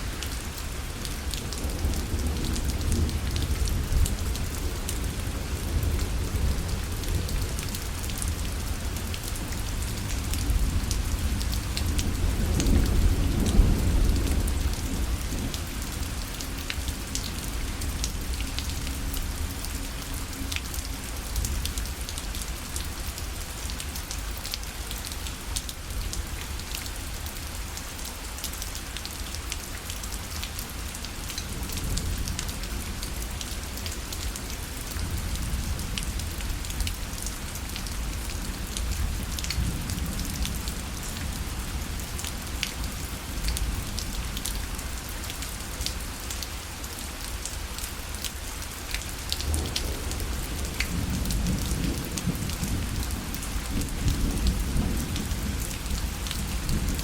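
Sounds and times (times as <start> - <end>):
rain tapping on fabric parasol: 0.0 - 57.0.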